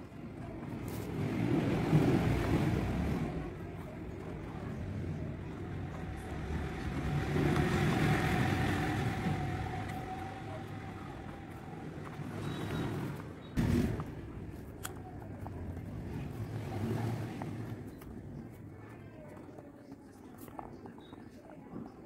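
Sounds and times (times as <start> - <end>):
background rumble and hiss: 0.0 - 22.0.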